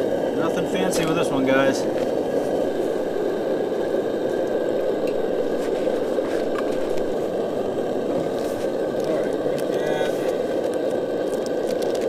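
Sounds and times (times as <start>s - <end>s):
camp stove burning: 0.0s - 12.0s.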